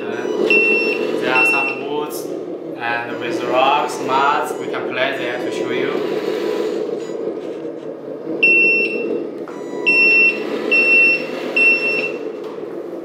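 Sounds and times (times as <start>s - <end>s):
reversing alarm beeps: 0.0s - 7.5s, 8.4s - 12.4s
low running motor sound: 0.0s - 13.0s.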